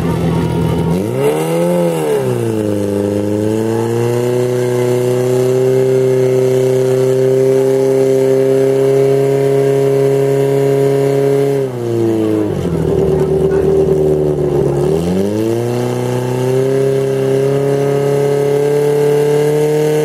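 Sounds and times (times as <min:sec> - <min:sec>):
fire pump engine at high revs: 0:00.0 - 0:20.0.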